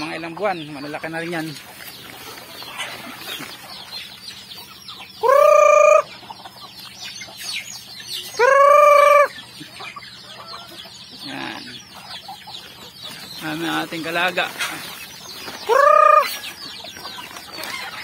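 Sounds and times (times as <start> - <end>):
chickens clucking: 0.0 - 18.0
loud drawn-out chicken calls: 0.0 - 18.0.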